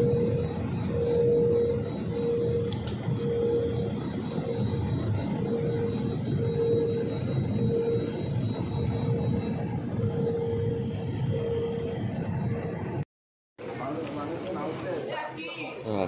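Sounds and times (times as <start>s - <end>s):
wavering hum: 0.0s - 13.0s
jet engine and airflow rumble: 0.0s - 15.4s.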